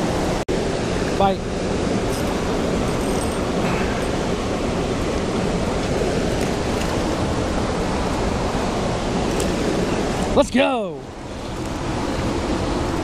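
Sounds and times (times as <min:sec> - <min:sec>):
river current rushing: 0:00.0 - 0:13.0.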